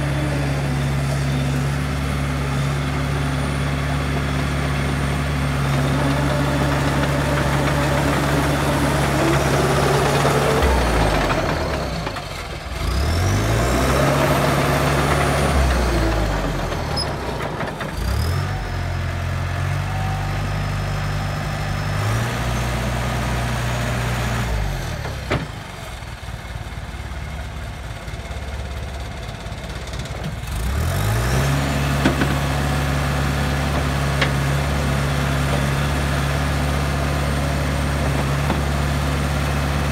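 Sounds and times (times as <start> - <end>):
bulldozer diesel engine revving: 0.0 - 39.9.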